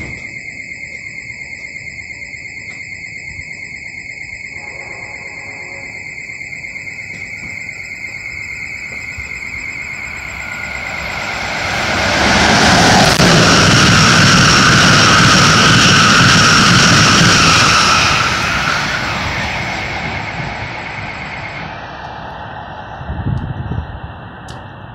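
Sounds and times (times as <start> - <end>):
train passing at speed: 2.8 - 24.9.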